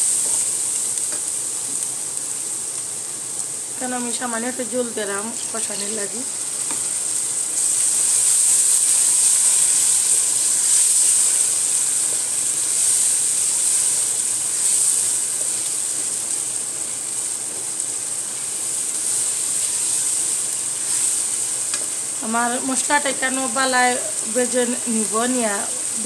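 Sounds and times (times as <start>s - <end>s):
spice paste sizzling in hot oil: 0.0s - 26.0s.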